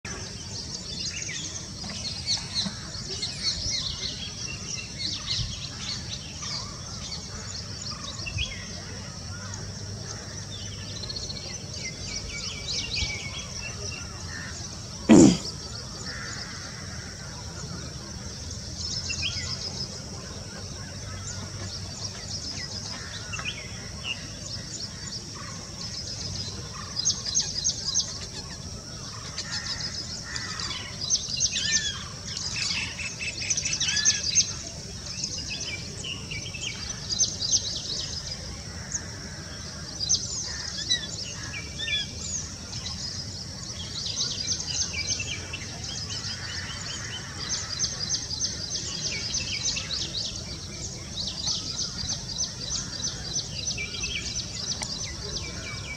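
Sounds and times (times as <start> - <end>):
birds chirping: 0.1 - 55.9.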